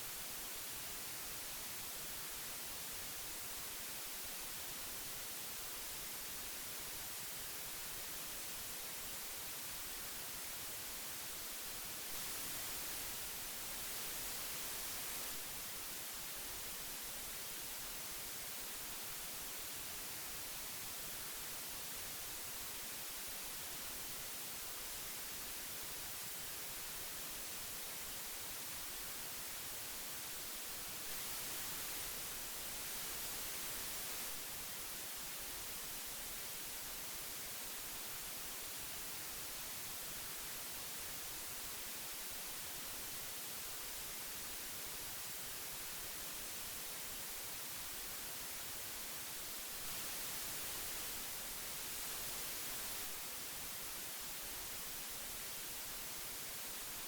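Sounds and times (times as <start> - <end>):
tape hiss: 0.0 - 57.0.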